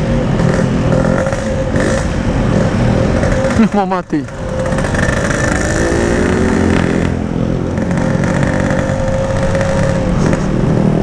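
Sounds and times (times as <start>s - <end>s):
two-stroke motorcycle engine: 0.0s - 11.0s.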